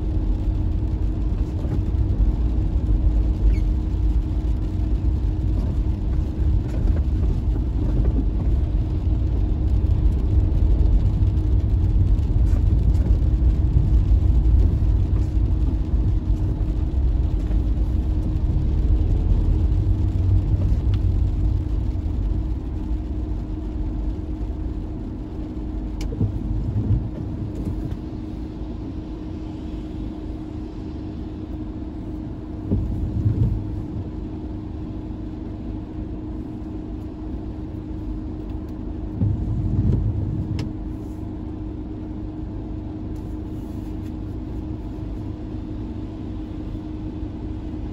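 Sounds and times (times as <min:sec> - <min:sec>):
car engine and road rumble: 0:00.0 - 0:47.9
constant hum: 0:00.0 - 0:47.9.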